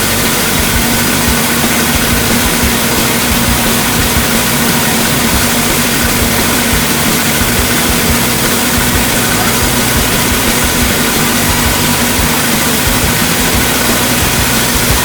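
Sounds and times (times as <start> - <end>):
industrial engine running: 0.0 - 15.0.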